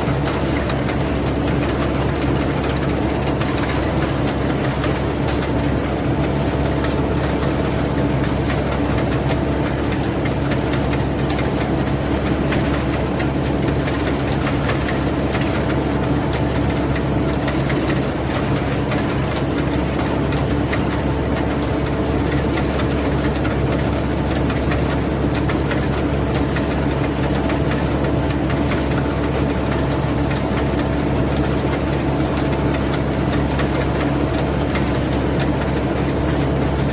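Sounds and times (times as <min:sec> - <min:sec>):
combine harvester engine running: 0:00.0 - 0:36.9.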